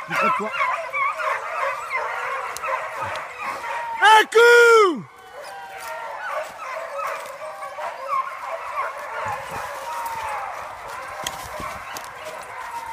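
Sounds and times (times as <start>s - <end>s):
pack of dogs baying and yelping: 0.0s - 12.9s.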